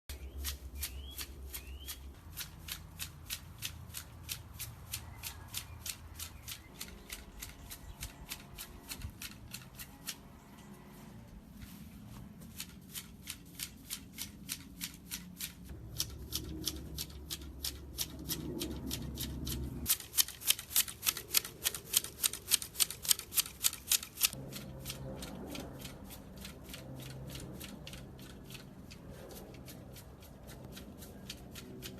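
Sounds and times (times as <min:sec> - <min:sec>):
pruning shears snipping foliage: 0:00.1 - 0:31.9.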